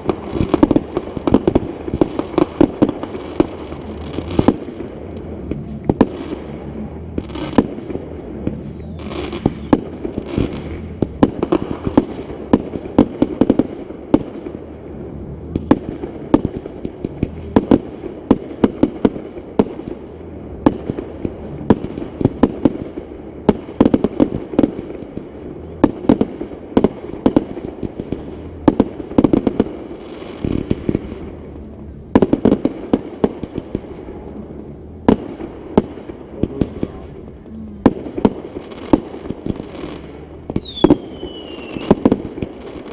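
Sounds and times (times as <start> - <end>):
fireworks booming: 0.0 - 42.9
fireworks crackling: 0.0 - 42.9.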